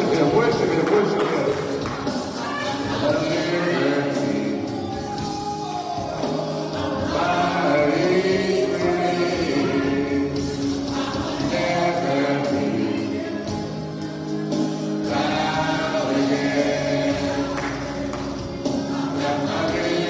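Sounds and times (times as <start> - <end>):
choir singing gospel music: 0.0 - 20.0.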